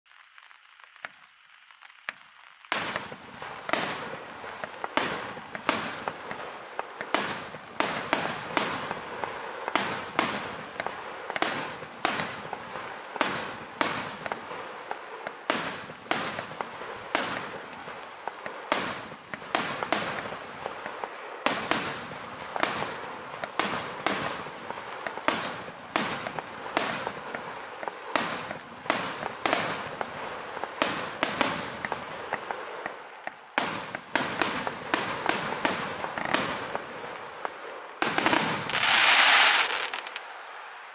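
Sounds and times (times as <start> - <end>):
firework hissing: 2.5 - 40.5
firework bangs: 2.7 - 40.6.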